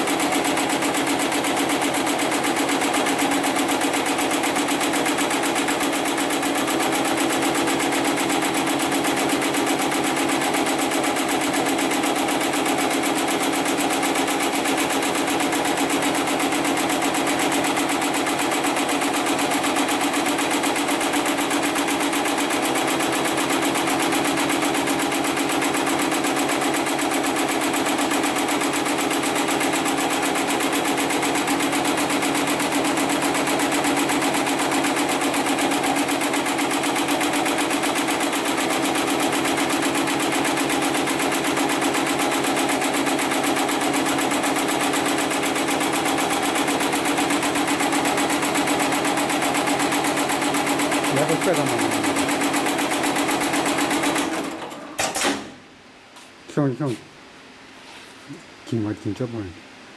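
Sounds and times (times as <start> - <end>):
sewing machine stitching: 0.0 - 55.5.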